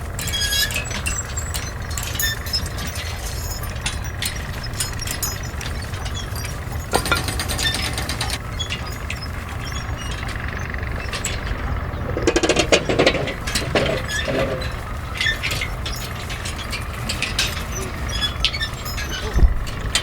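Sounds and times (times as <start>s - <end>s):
low engine rumble: 0.0s - 20.0s
metallic clinks and knocks: 0.2s - 20.0s.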